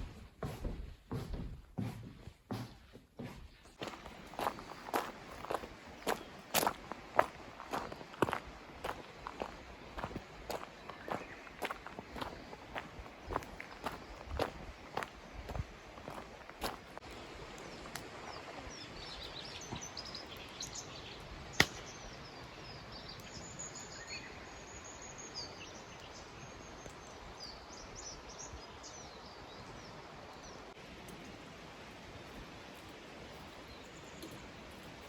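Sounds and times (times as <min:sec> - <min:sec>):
small birds chirping: 0:00.0 - 0:30.8, 0:32.2 - 0:35.0
outdoor background hiss: 0:00.0 - 0:35.0.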